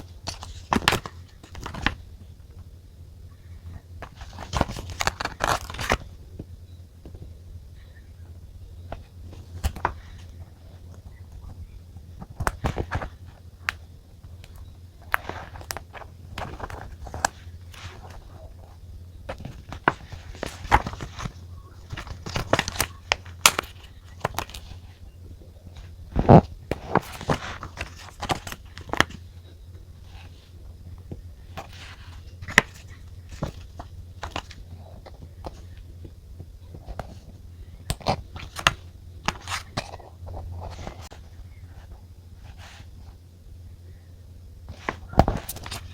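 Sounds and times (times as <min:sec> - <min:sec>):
low steady hum: 0:00.0 - 0:45.9
paper rustling and scratching: 0:03.5 - 0:06.2, 0:08.9 - 0:29.3, 0:29.9 - 0:35.9, 0:36.6 - 0:43.2, 0:44.7 - 0:45.9.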